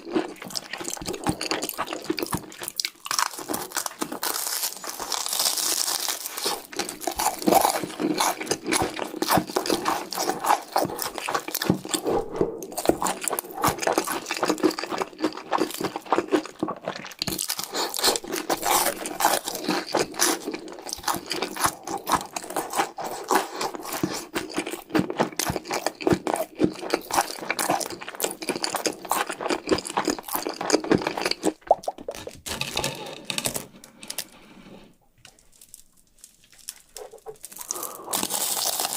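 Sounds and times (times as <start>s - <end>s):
chewing and crunching snacks: 0.0s - 34.3s, 35.2s - 38.9s.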